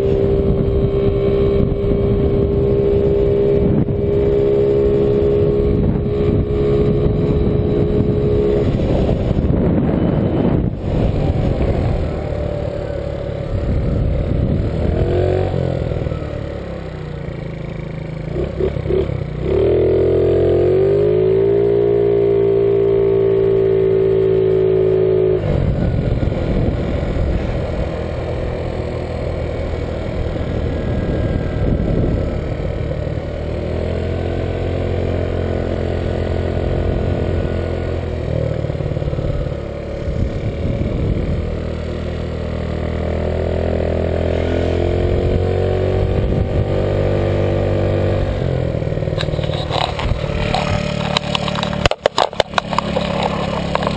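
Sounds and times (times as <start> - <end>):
motor scooter engine: 0.0 - 53.9.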